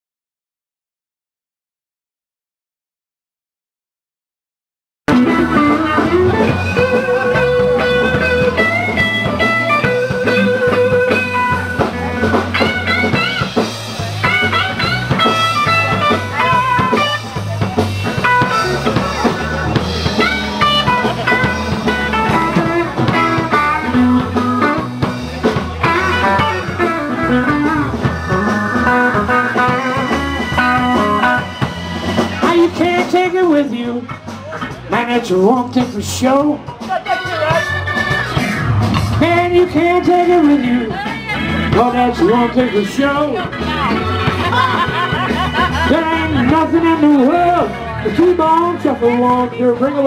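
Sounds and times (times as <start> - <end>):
blues band playing: 5.1 - 50.0
lead guitar with bent notes: 5.1 - 50.0.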